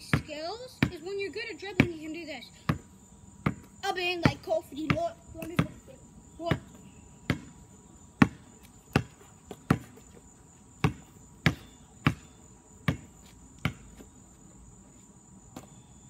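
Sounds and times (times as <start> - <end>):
basketball bouncing on asphalt: 0.0 - 14.7, 15.4 - 16.0
high insect drone: 1.8 - 16.0.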